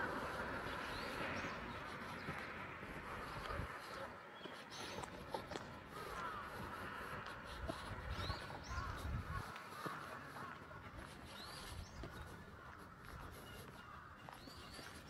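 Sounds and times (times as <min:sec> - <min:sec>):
birds chirping: 0:00.0 - 0:15.0
harsh bird calls: 0:00.0 - 0:15.0.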